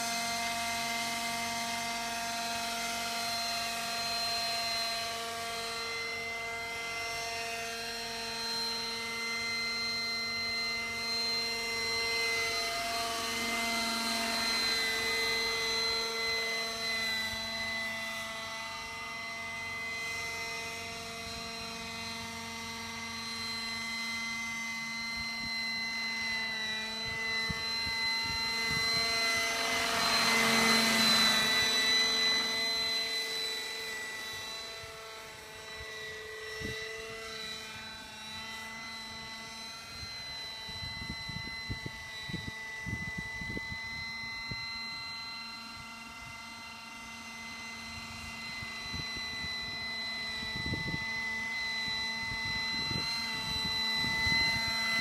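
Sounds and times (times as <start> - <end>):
model helicopter whine: 0.0 - 55.0.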